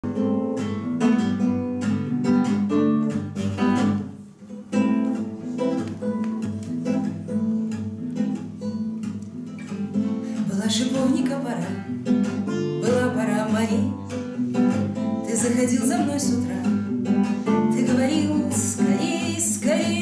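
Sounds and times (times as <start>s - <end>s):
classical guitar strumming chords: 0.0s - 20.0s.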